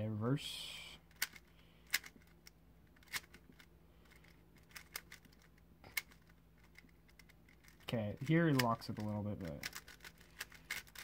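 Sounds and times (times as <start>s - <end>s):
puzzle cube clicking: 1.1s - 11.0s.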